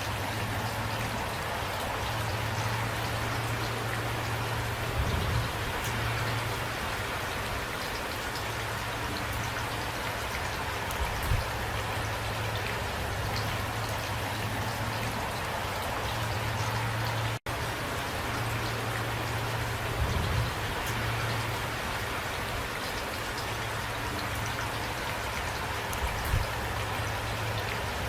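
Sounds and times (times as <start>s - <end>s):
raindrops ticking: 0.0s - 28.0s
steady rain falling: 0.0s - 28.0s.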